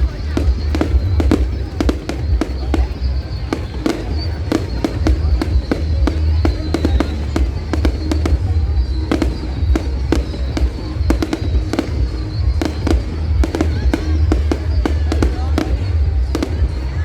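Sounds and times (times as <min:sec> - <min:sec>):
fireworks bangs and crackles: 0:00.0 - 0:17.0
heavy low rumble: 0:00.0 - 0:17.0
music playing: 0:00.0 - 0:17.0.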